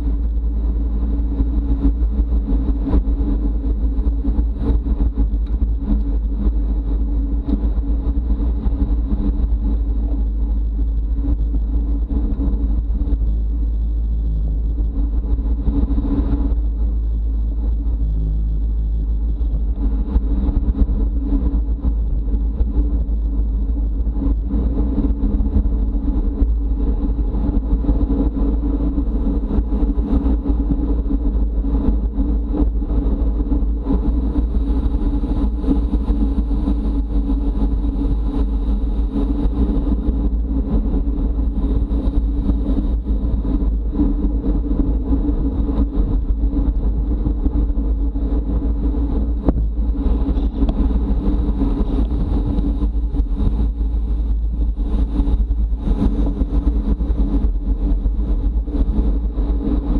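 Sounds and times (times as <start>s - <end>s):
wind and road noise from bicycle: 0.0s - 59.9s.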